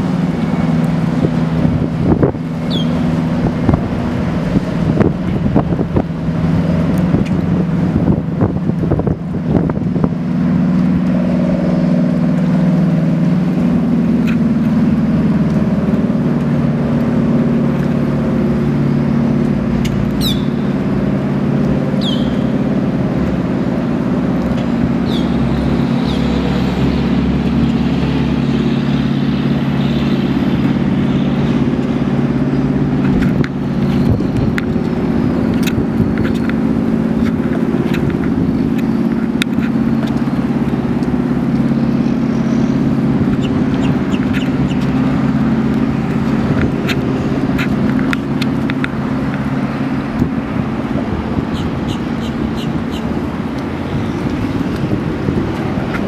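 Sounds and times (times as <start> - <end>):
boat engines droning: 0.0 - 56.0.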